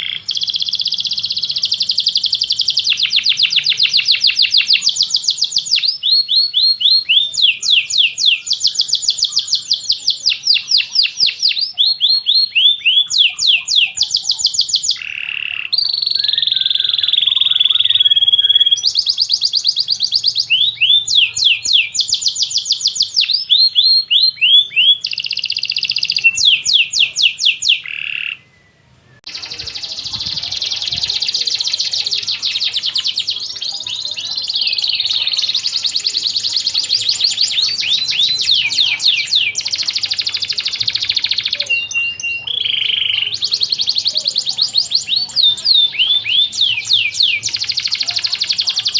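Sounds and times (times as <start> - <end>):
canary singing fast trills: 0.0 - 48.9.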